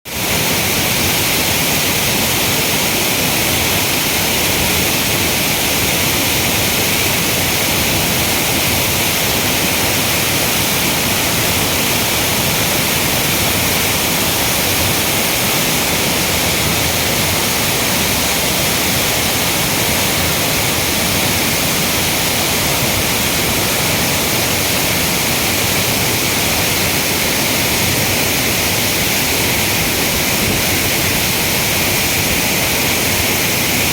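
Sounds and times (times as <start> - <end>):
waterfall pouring: 0.1 - 33.9.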